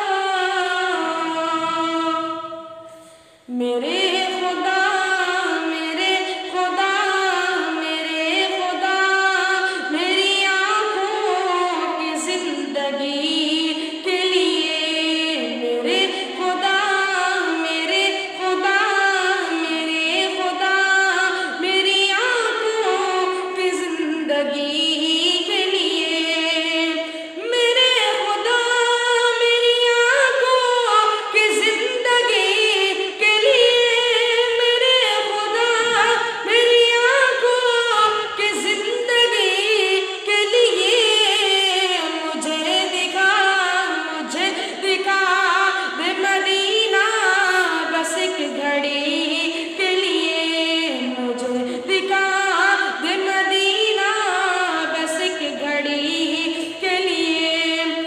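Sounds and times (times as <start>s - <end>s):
boy singing unaccompanied: 3.5s - 58.0s.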